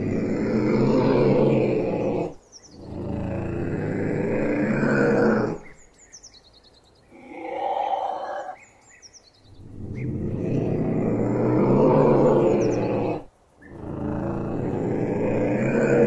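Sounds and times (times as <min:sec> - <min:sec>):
wild cat meowing calls: 0:00.0 - 0:05.8, 0:07.1 - 0:08.6, 0:09.5 - 0:16.0
bird chirping: 0:00.0 - 0:16.0.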